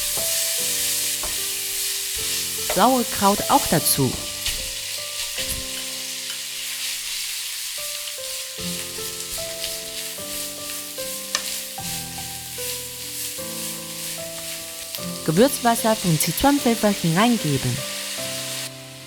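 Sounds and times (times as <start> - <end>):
food sizzling in a frying pan: 0.0 - 19.0
soft background music: 0.0 - 19.0.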